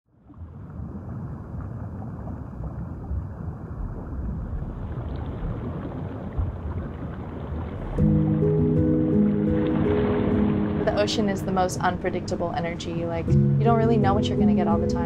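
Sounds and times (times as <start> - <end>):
ocean surf rumbling: 0.5 - 15.0.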